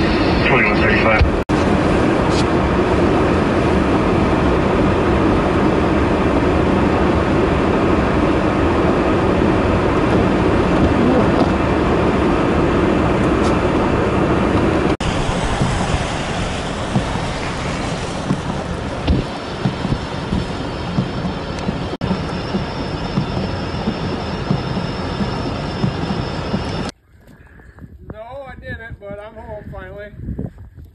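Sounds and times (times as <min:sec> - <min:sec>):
truck engine and road noise: 0:00.0 - 0:27.0
rough wind-like noise: 0:00.0 - 0:30.9.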